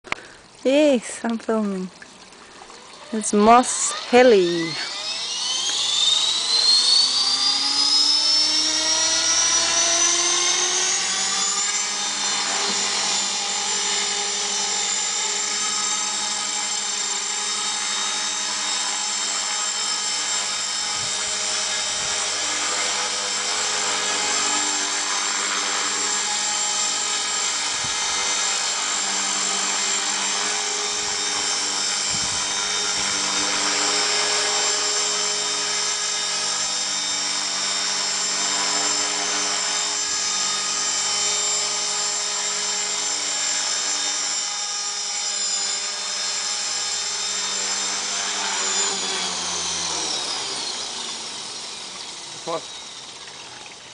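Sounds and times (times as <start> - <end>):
rc helicopter motor whine: 0.0 - 53.9
rotor blades whirring: 2.1 - 53.9.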